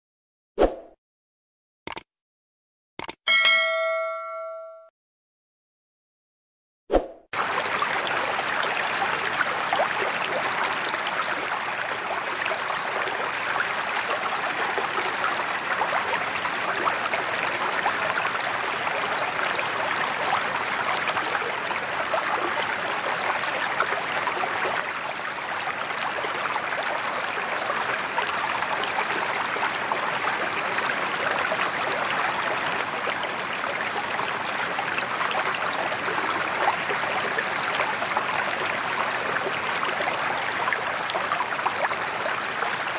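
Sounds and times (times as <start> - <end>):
waterfall splashing into pond: 7.4 - 42.9.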